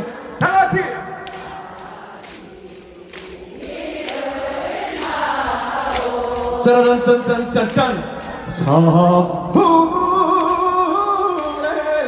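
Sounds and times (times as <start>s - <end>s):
audience singing in unison: 0.0s - 12.0s.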